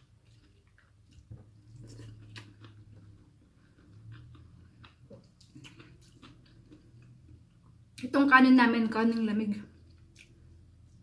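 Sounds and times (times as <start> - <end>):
person chewing food: 0.0 - 8.0, 9.8 - 11.0.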